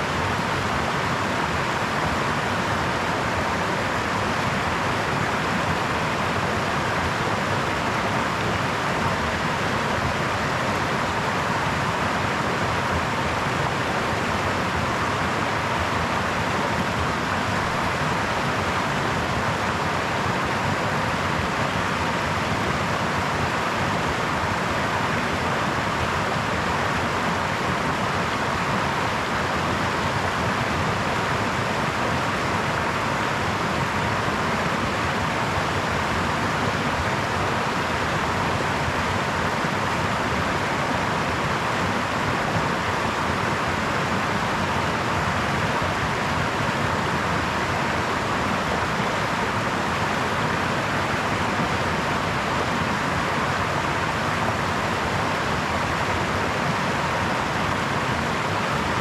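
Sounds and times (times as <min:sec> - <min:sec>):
brook water running: 0:00.0 - 0:59.0.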